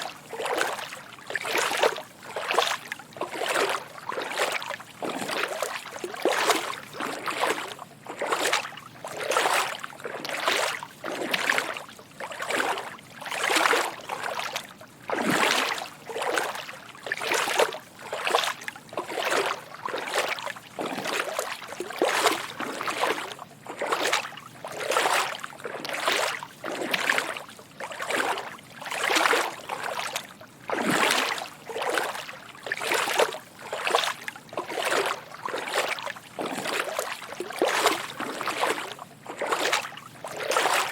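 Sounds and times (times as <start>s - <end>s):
footsteps wading through shallow water: 0.0s - 40.9s.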